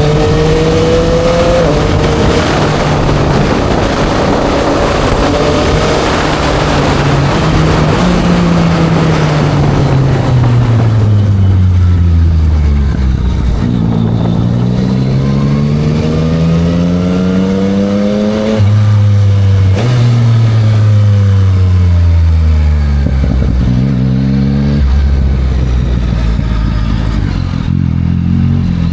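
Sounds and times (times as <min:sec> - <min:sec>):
engine pitch drops at gear changes: 0:00.0 - 0:28.9
motorcycle engine revving: 0:00.0 - 0:28.9.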